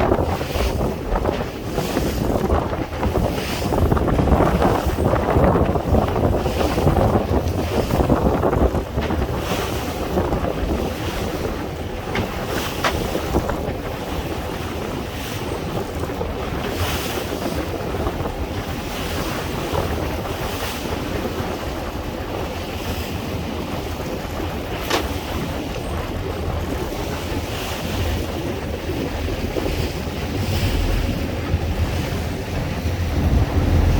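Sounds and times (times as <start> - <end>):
sea waves washing on shore: 0.0 - 33.9
wind rumbling on microphone: 0.0 - 33.9.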